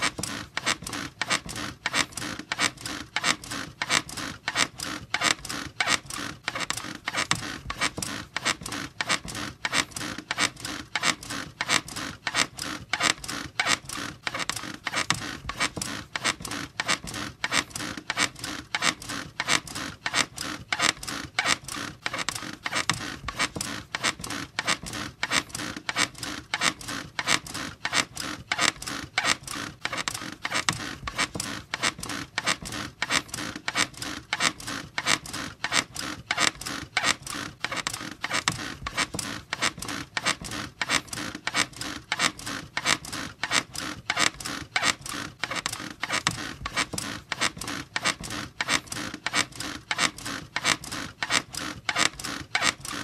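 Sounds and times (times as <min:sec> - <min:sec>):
squeaky bed creaking: 0:00.0 - 0:53.0.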